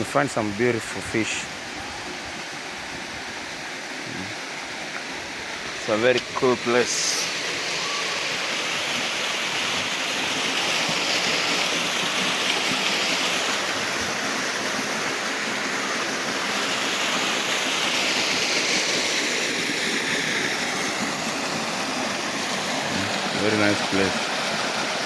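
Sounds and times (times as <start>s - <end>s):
river water rushing: 0.0s - 25.0s
small waterfall: 0.0s - 25.0s.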